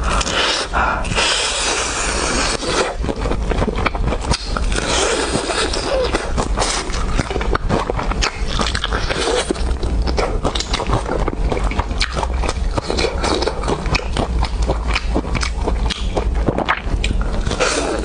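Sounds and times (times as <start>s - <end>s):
crunchy chewing: 0.0s - 18.0s
steady low hum: 0.0s - 18.0s.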